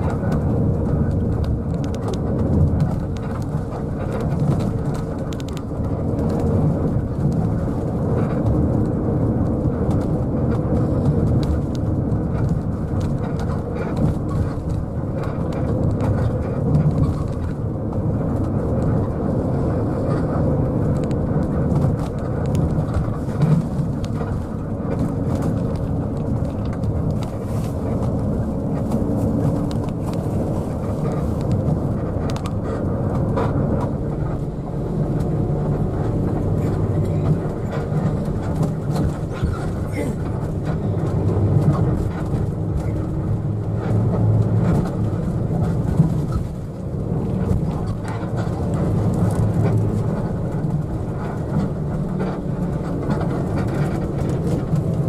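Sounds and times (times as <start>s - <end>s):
body knocks and rattles: 0.0s - 55.0s
diesel engine drone: 0.0s - 55.0s
road and tyre noise: 0.0s - 55.0s.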